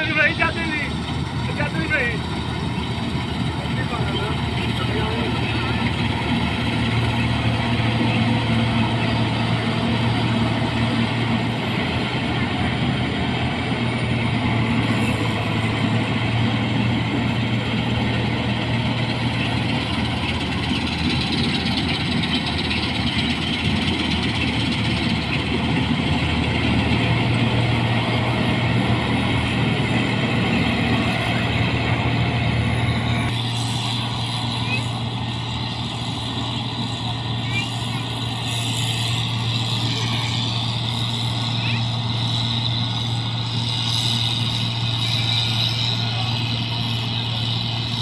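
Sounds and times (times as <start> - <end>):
combine harvester engine drone: 0.0 - 48.0
threshing machinery whirring: 0.0 - 48.0.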